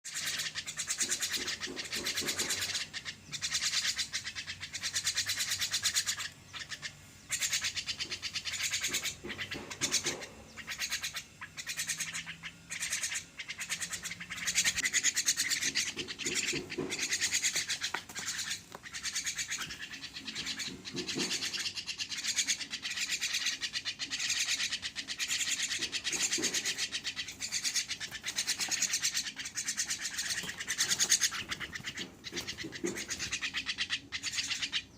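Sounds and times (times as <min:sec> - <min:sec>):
myna harsh rasping calls: 0:00.1 - 0:34.9.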